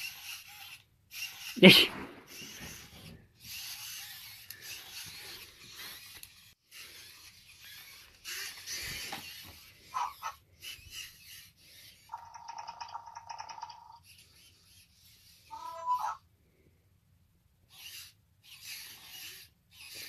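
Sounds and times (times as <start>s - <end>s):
robot dog motors whirring: 0.0s - 16.3s, 17.6s - 20.0s.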